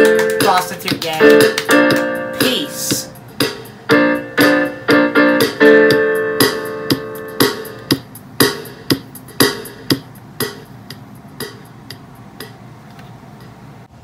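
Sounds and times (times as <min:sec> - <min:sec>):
electronic keyboard chord: 0:00.0 - 0:12.5.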